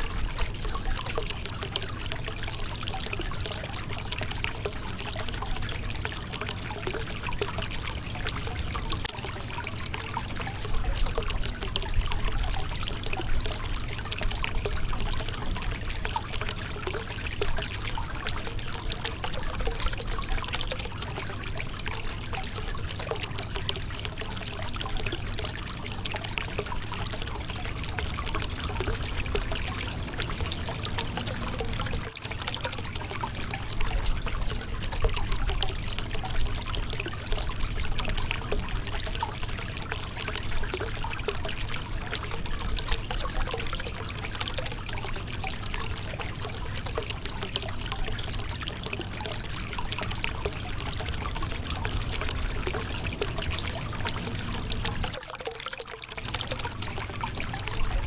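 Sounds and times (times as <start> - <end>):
river water trickling over rocks: 0.0 - 58.0.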